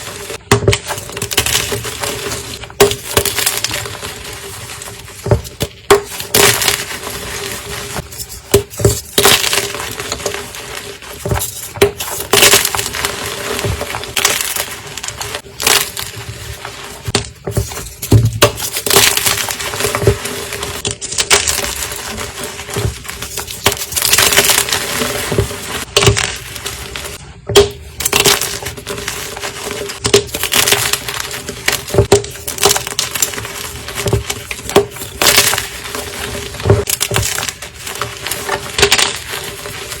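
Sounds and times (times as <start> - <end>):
chalk blocks crunching: 0.0 - 40.0.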